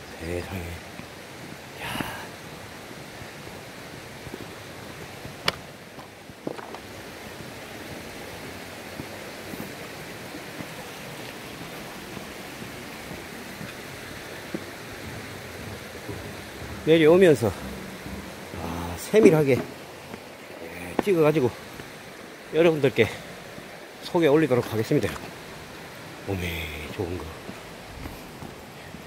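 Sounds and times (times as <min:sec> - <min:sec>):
mountain stream rushing: 0:00.0 - 0:29.0.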